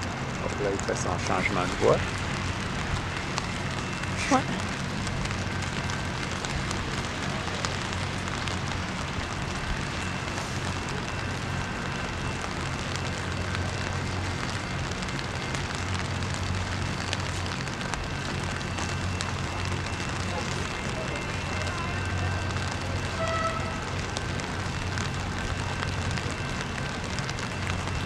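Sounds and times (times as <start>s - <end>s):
low steady rumble: 0.0s - 28.0s
rain pattering: 0.0s - 28.0s.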